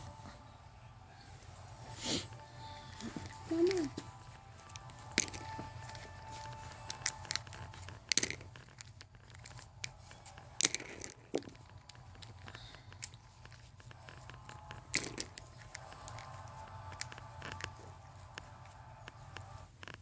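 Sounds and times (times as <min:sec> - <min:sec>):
steady low hum: 0:00.0 - 0:19.8
handling crackles and rustles: 0:02.2 - 0:20.0.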